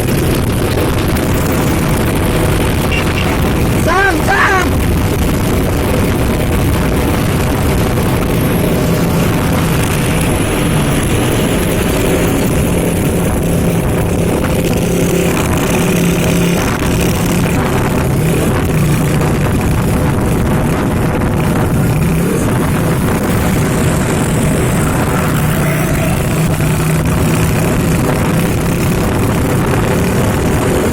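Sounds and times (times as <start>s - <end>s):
heavy trucks passing: 0.0s - 30.9s
road noise: 0.0s - 30.9s.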